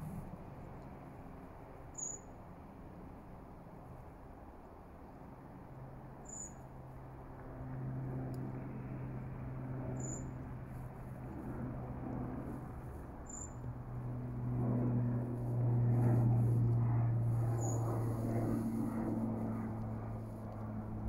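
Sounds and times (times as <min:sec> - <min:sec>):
distant engine hum: 0:00.0 - 0:21.0.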